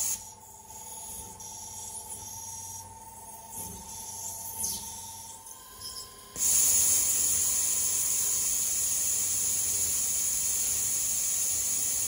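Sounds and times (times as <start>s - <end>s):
faint mill spindle whine: 0.0s - 12.0s.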